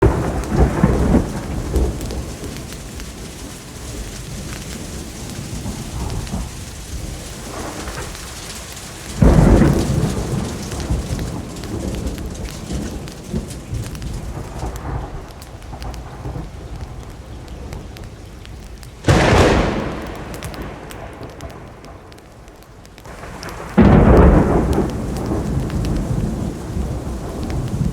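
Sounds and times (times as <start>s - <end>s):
steady rain: 0.0s - 27.9s
thunder claps rumbling: 0.0s - 27.9s.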